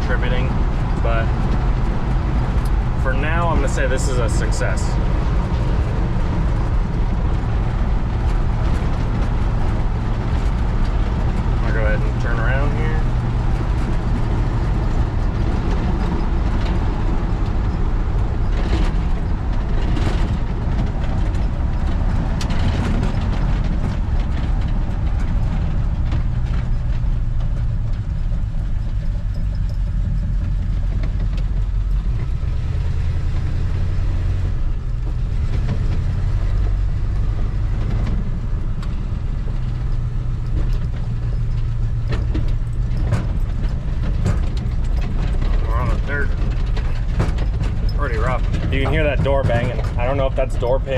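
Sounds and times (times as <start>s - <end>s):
cab knocks and rattles: 0.0s - 50.9s
engine and road drone: 0.0s - 50.9s.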